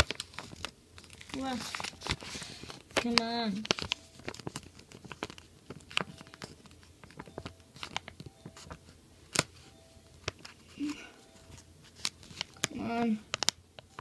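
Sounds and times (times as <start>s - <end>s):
plastic page crinkling: 0.0s - 14.0s.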